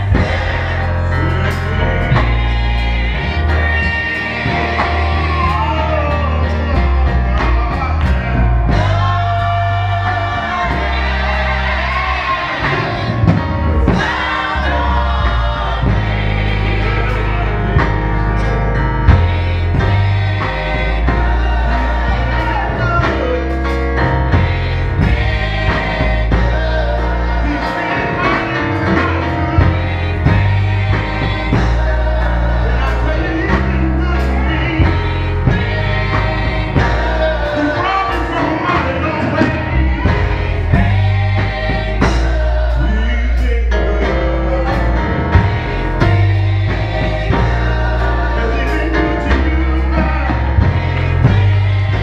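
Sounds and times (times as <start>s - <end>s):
gospel choir singing: 0.0s - 52.0s
piano accompaniment: 0.0s - 52.0s.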